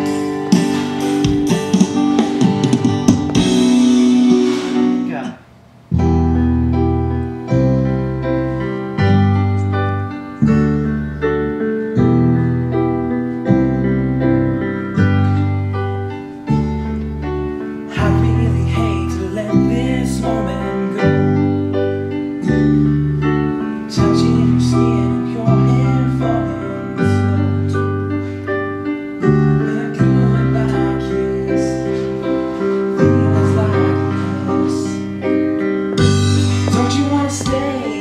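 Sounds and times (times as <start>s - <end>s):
bass line: 0.0s - 28.2s, 29.2s - 38.0s
keyboard chords: 0.0s - 38.0s.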